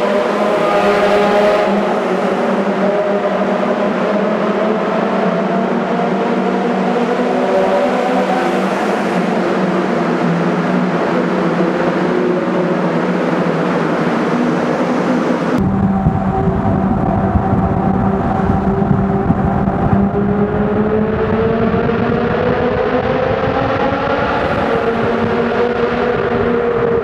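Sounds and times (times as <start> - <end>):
car engine droning: 0.0 - 27.0
steady rushing noise: 0.0 - 27.0.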